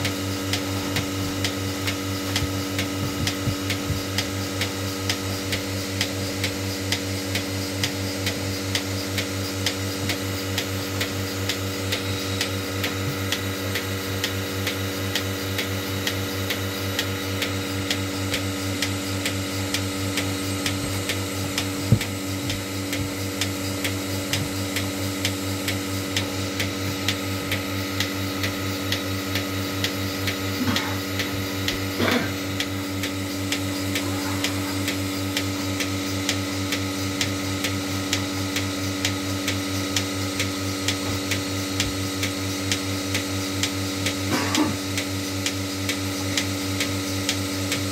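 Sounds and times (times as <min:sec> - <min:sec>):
pulsator clicking: 0:00.0 - 0:44.2
vacuum pump hum: 0:00.0 - 0:47.9.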